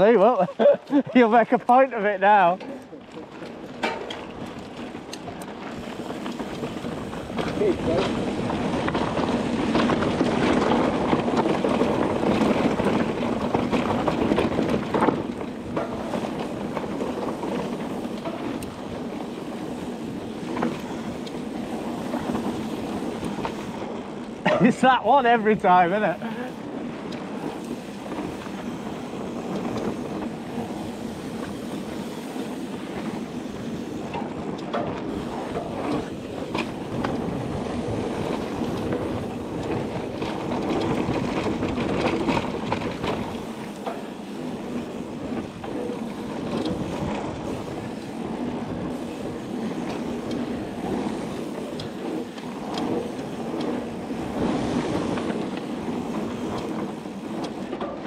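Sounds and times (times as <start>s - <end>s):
bike rattling over bumps: 0.0s - 58.0s
bike tyres rolling on dirt: 0.0s - 58.0s.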